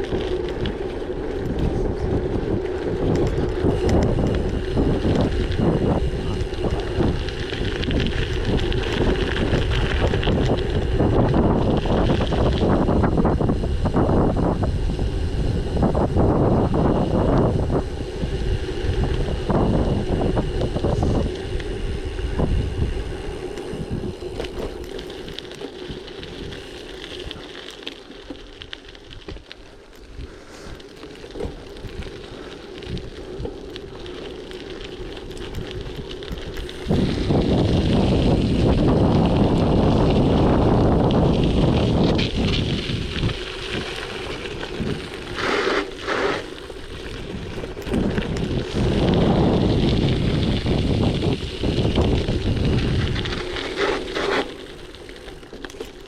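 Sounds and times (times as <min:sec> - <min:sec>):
wind buffeting microphone: 0:00.0 - 0:27.6, 0:28.6 - 0:56.0
bike tyres on gravel: 0:00.0 - 0:56.0.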